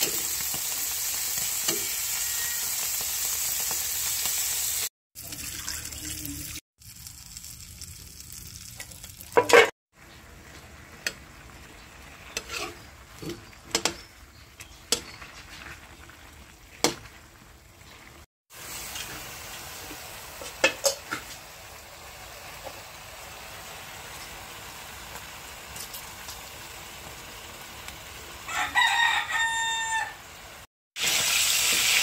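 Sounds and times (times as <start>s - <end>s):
sausages sizzling in a wok: 0.0s - 32.0s.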